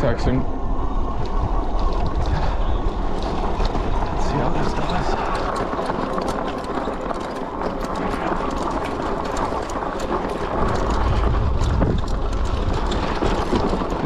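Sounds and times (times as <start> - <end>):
low rumble: 0.0 - 14.0
bike tyres crunching over rock: 1.2 - 14.0
stones and bike frame clicking: 1.2 - 14.0.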